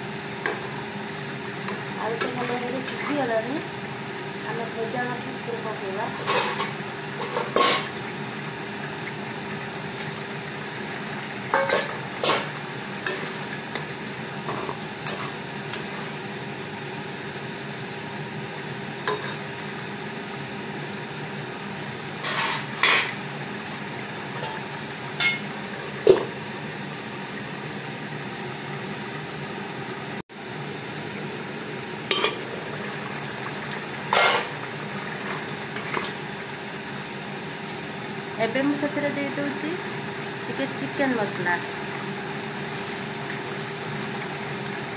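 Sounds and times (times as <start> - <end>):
steady background hum: 0.0 - 44.9.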